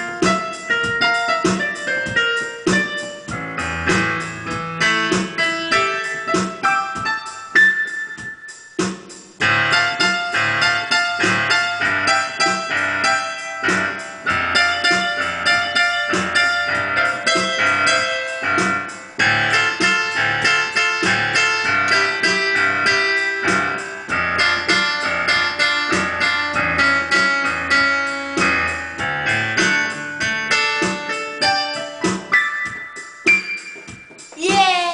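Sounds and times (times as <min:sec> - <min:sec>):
digital piano quick runs: 0:00.0 - 0:34.2.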